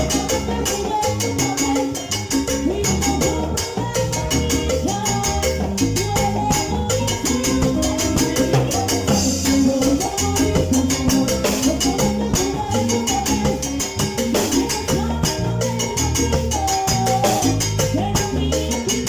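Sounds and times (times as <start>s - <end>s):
salsa band playing: 0.0s - 19.0s.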